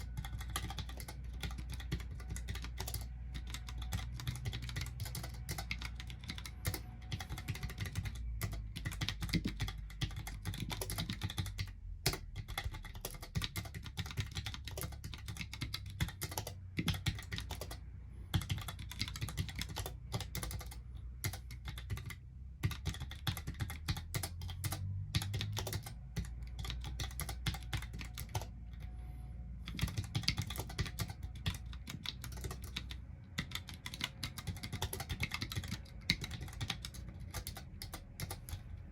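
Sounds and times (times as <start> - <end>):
fast typing on mechanical keyboard: 0.0 - 28.9, 29.7 - 38.9.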